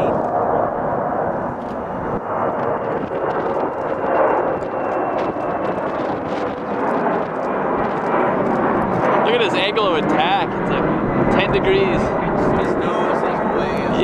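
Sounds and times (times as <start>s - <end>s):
jet engines roaring overhead: 0.0s - 14.0s.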